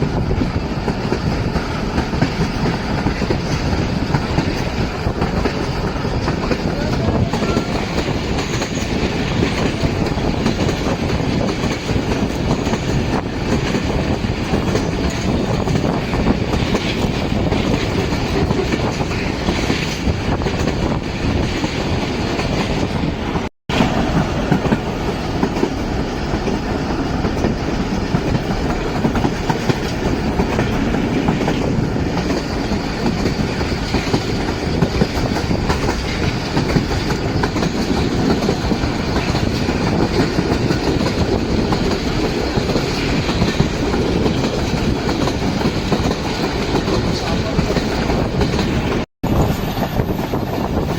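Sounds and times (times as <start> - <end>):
rail clatter from wheels: 0.0 - 23.0, 23.7 - 50.9
passenger train rumbling: 0.0 - 50.9.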